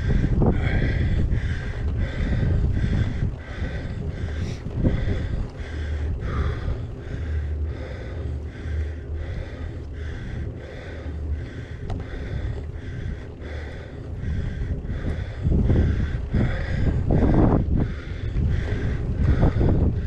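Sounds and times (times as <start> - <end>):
person breathing hard: 0.0 - 20.0
wind and riding noise: 0.0 - 20.0.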